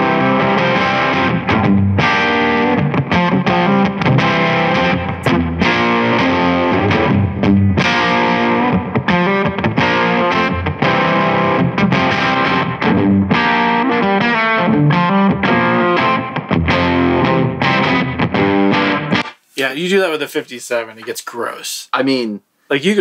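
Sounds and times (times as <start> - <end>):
overdriven electric guitar: 0.0 - 19.4.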